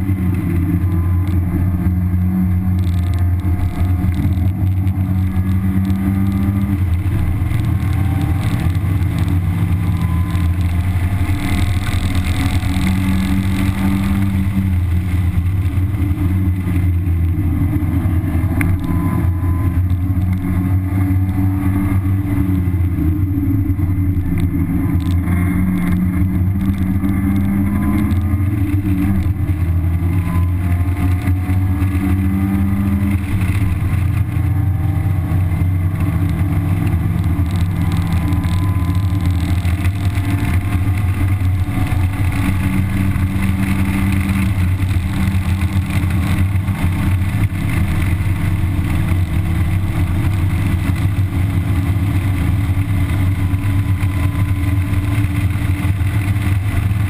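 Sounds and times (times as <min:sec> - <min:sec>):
car engine pulling at speed: 0:00.0 - 0:57.0
wind and road noise: 0:00.0 - 0:57.0.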